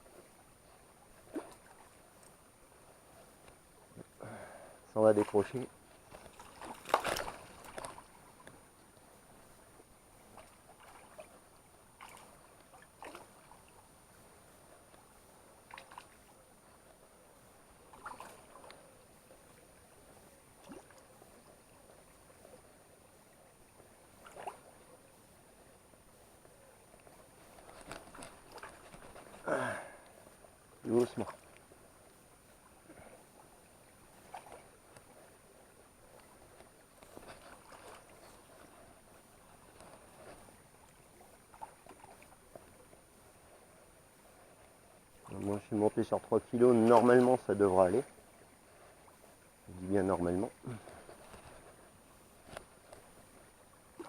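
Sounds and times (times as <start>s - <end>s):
small river flowing: 0.0s - 54.0s
soft water sounds: 0.0s - 54.0s.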